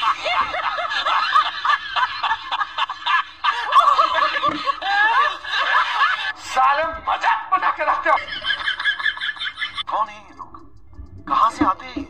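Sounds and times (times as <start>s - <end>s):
people laughing and snickering: 0.0s - 9.9s.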